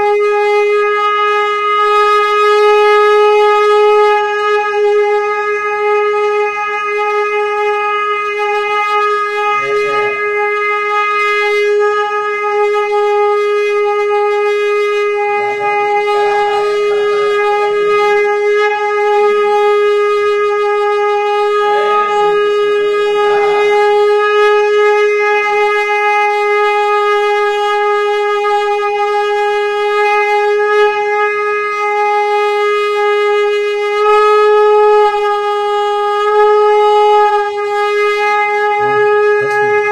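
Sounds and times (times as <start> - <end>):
conch shell blown: 0.0 - 39.9.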